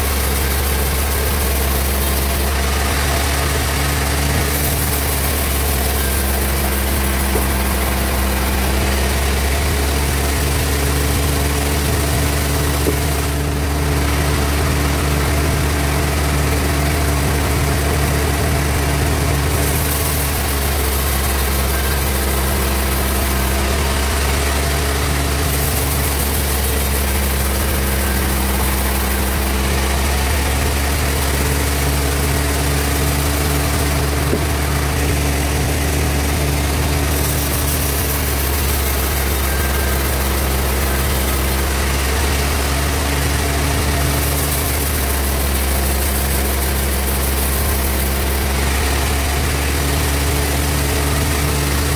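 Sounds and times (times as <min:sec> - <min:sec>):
band sawmill machine humming: 0:00.0 - 0:51.9.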